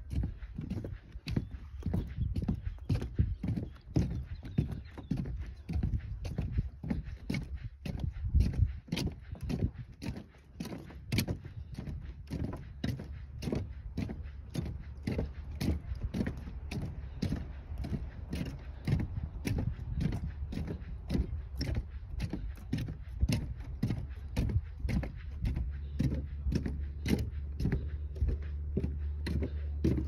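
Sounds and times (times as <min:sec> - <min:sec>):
footsteps on wooden boardwalk: 0:00.0 - 0:30.0
low steady rumble: 0:00.0 - 0:30.0.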